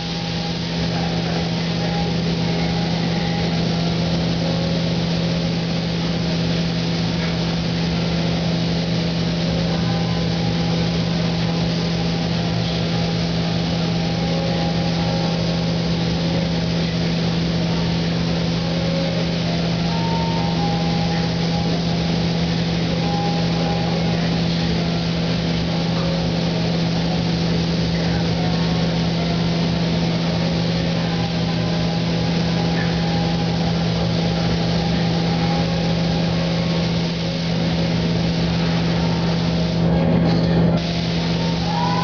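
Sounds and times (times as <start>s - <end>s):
spray gun hissing: 0.0s - 39.9s, 40.8s - 42.0s
low machinery hum: 0.0s - 42.0s.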